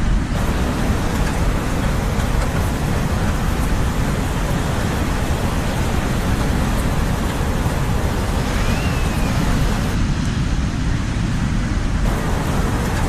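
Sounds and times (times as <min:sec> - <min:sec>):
ocean waves roaring: 0:00.0 - 0:13.0.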